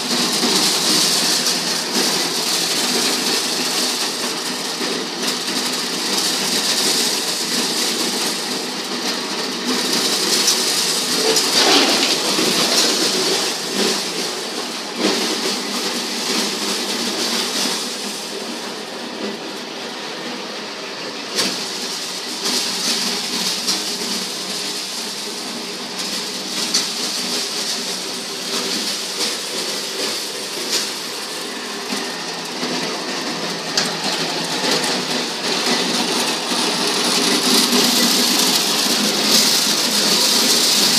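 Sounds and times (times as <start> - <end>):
corn cobs rattling: 0.0 - 40.9.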